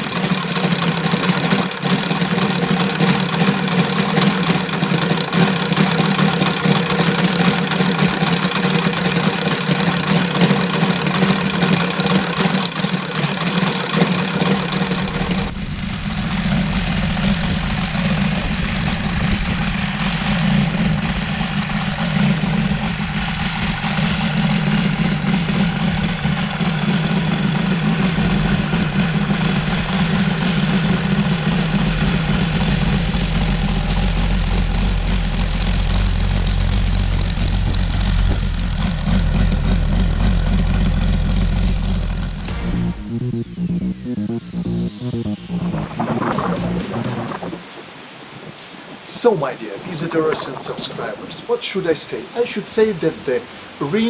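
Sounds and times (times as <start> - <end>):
radial model engine running: 0.0 - 47.6.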